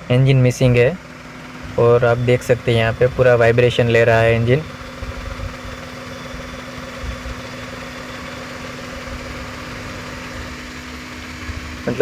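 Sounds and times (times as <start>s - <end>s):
car engine idling rough and misfiring: 0.0s - 12.0s.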